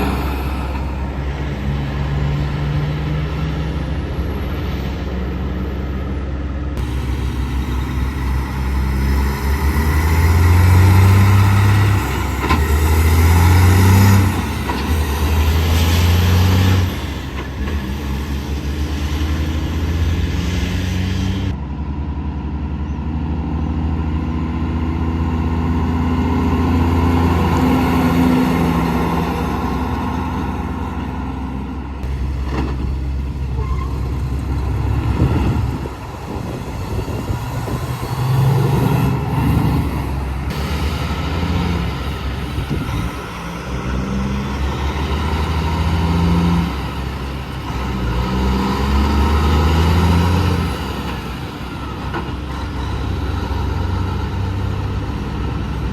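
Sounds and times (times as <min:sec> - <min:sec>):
diesel truck shifting gears: 0:00.0 - 0:21.9, 0:23.0 - 0:55.9
heavy truck engine passing: 0:00.0 - 0:55.9.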